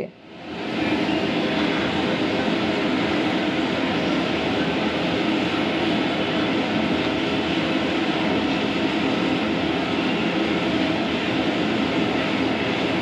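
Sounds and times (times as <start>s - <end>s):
gas burner roaring: 0.2s - 13.0s.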